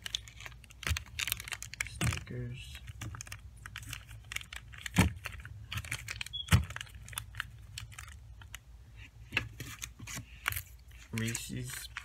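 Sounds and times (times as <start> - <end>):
crinkling wrappers: 0.0 - 8.6, 9.6 - 12.0.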